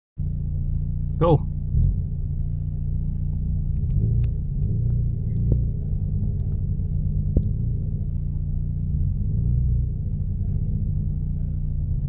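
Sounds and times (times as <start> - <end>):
vehicle rumbling over rocky track: 0.2 - 12.0.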